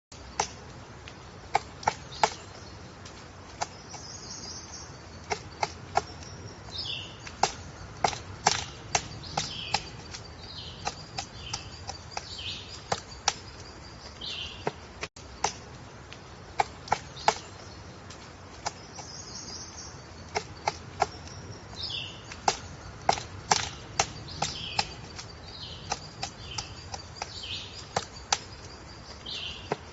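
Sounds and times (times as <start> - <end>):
woodpecker knocking on wood: 0.1 - 29.9.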